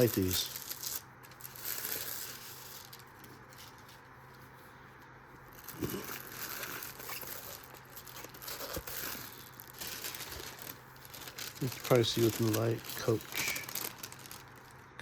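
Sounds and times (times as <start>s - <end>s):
paper wrapping crinkling: 0.0s - 4.5s, 5.4s - 14.9s
low steady hum: 0.0s - 15.0s.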